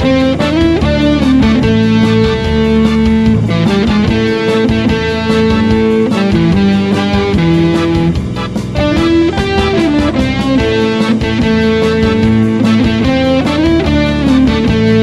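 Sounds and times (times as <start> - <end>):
backing track with bass and drums: 0.0 - 15.0
electric guitar lead melody: 0.0 - 15.0.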